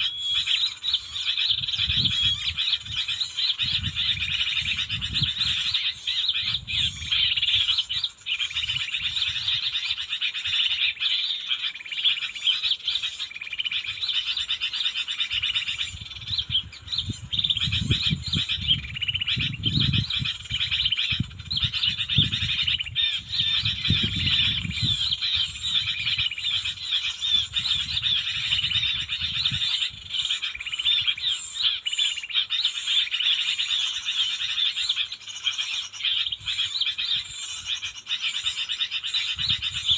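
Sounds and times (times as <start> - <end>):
chorus of frogs or insects: 0.0 - 39.9
small birds chirping: 0.0 - 39.9.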